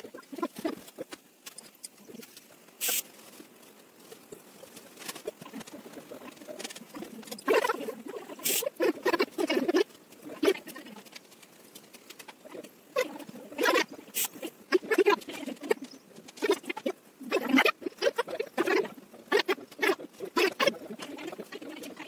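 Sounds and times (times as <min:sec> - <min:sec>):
small ticks and rustles: 0:00.0 - 0:22.0
paintbrush dabbing on paper: 0:02.2 - 0:22.0.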